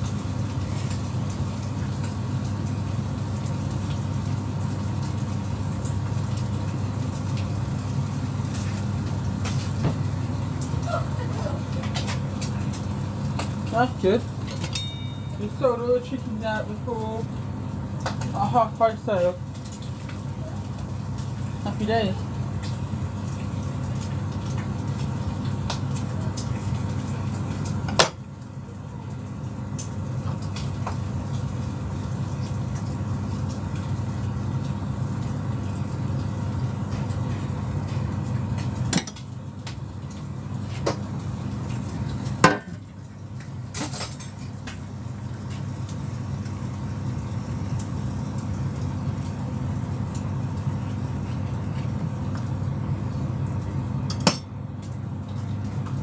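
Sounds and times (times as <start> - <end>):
kitchen equipment humming: 0.0 - 56.0.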